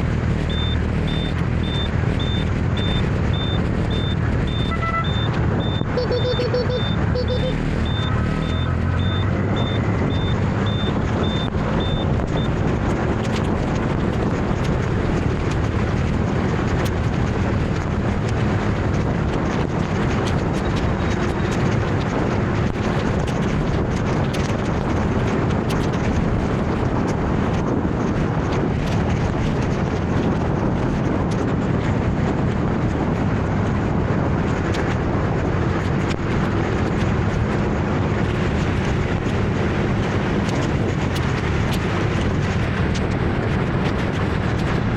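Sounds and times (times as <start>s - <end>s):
traffic: 0.0s - 44.9s
wind noise on microphone: 0.0s - 44.9s.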